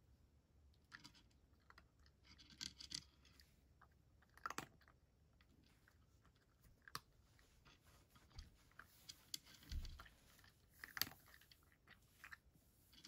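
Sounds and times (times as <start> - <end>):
cat crunching dry kibble: 0.9 - 13.0.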